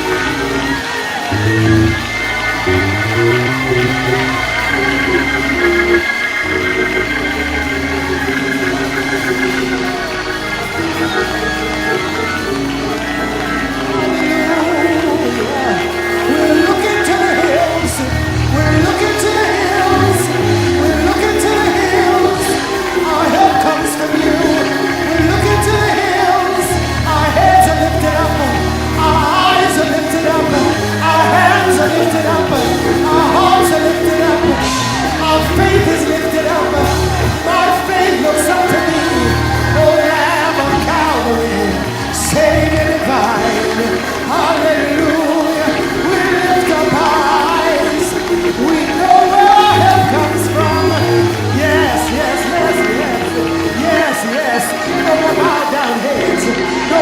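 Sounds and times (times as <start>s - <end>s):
congregation shouting: 0.0s - 57.0s
voices singing worship music: 0.0s - 57.0s.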